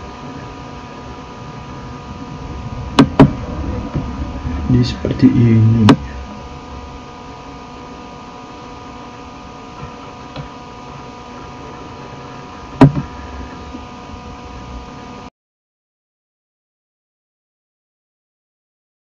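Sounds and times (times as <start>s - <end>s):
microphone electrical hum and hiss: 0.0s - 15.3s.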